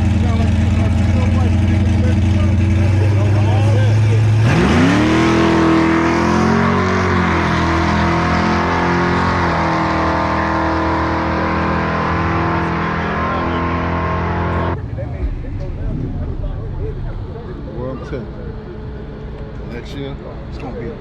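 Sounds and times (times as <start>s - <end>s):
car engine revving: 0.0s - 20.6s.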